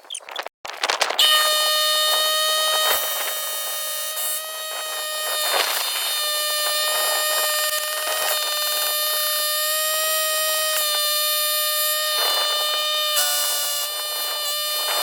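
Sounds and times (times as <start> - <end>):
power tool motor whining: 1.2 - 15.0
short rasping bursts: 1.2 - 15.0.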